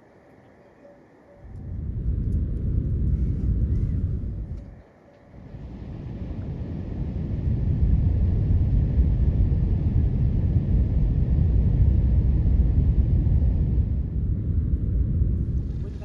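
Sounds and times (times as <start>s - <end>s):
wind buffeting microphone: 1.4s - 16.0s.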